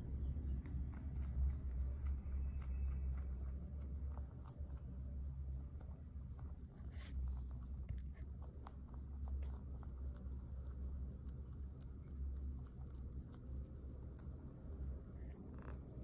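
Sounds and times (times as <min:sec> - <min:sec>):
low steady hum: 0:00.0 - 0:16.0
rabbit chewing a dried leaf: 0:00.0 - 0:16.0.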